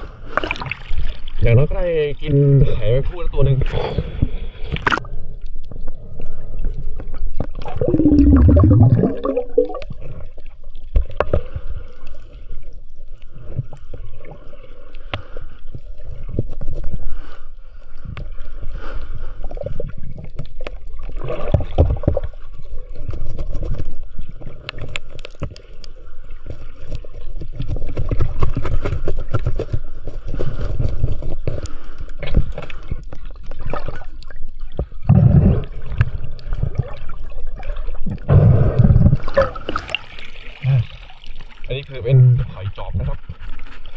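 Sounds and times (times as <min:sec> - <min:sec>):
water gurgling and sloshing underwater: 0:00.0 - 0:43.9.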